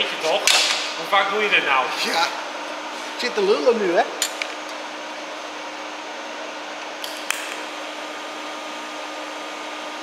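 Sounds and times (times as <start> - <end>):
welder hiss with faint hum: 0.0 - 10.0.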